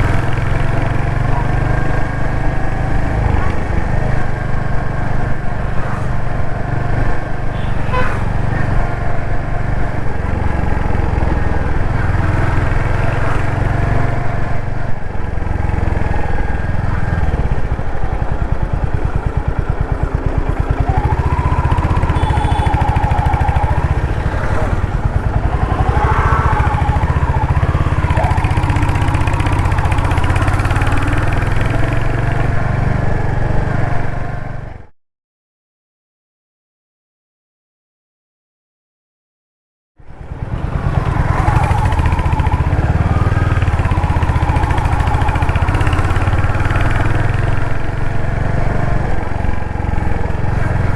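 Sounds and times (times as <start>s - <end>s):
wavering tones from traffic: 0.0s - 32.7s, 40.2s - 50.9s.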